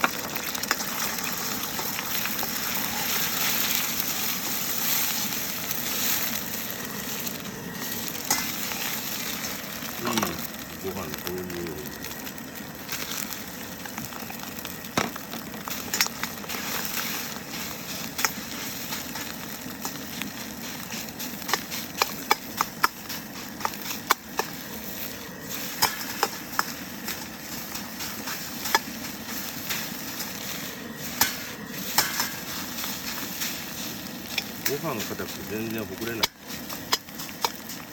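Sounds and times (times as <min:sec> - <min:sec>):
rice sizzling in a wok: 0:00.0 - 0:37.9
metal utensil scraping a wok: 0:00.6 - 0:10.5, 0:15.7 - 0:35.4, 0:36.2 - 0:37.9.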